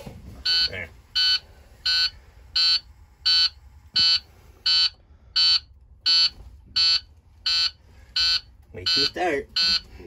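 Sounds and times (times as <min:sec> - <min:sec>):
warning buzzer beeping: 0:00.4 - 0:10.0.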